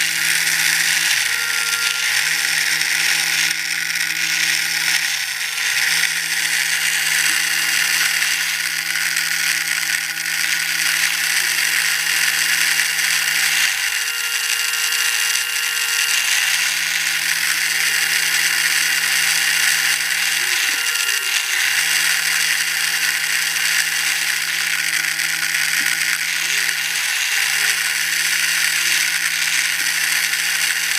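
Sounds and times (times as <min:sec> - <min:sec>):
toy motor and gears whirring: 0:00.0 - 0:30.9.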